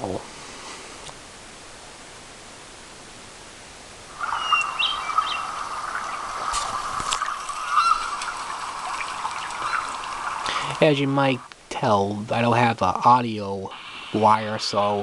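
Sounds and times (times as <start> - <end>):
hailstorm through small speakers: 0.0 - 15.0.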